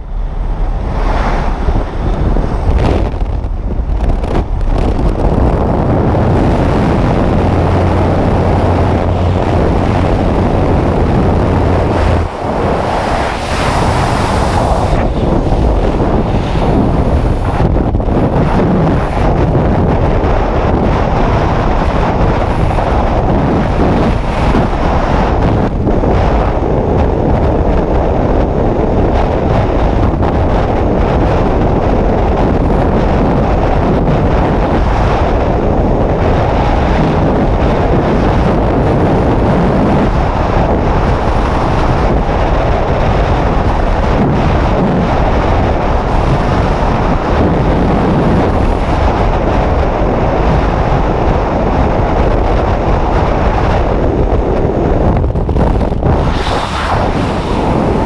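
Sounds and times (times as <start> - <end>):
freefall wind buffeting microphone: 0.0 - 58.0.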